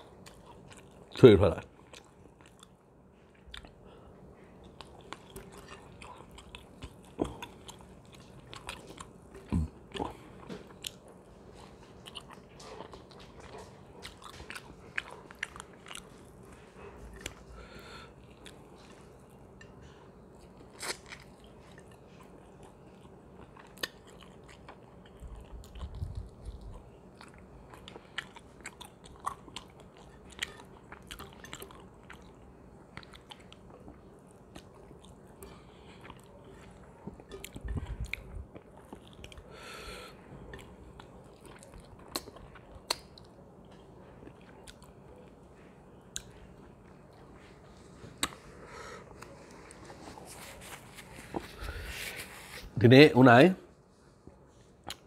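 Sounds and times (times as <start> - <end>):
person chewing food: 0.0 - 52.8, 54.2 - 55.0.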